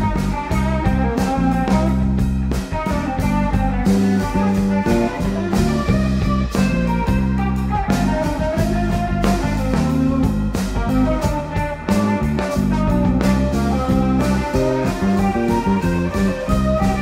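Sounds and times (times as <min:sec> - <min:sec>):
drum kit steady beat: 0:00.0 - 0:17.0
electric bass: 0:00.0 - 0:17.0
electric guitar melody: 0:00.0 - 0:17.0.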